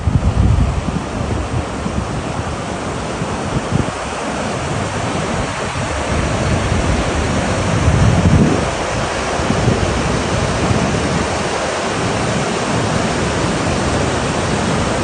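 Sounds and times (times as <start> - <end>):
floodwater rushing: 0.0 - 15.0
wind gusting on microphone: 0.0 - 15.0.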